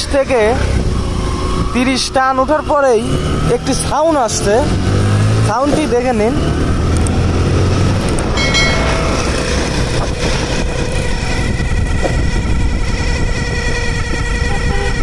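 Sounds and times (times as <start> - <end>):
road noise: 0.0 - 15.0
motorcycle engine: 2.3 - 15.0.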